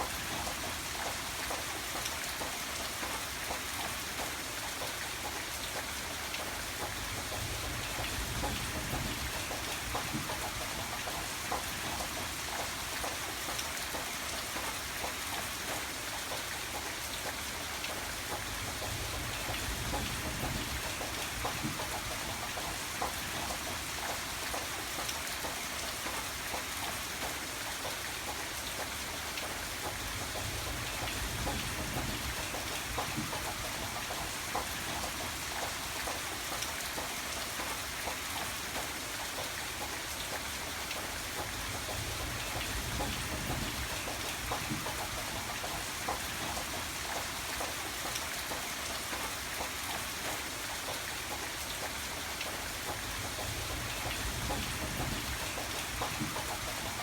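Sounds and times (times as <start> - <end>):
low rumble of rain: 0.0 - 57.0
rain drops pattering on hard surface: 0.0 - 57.0.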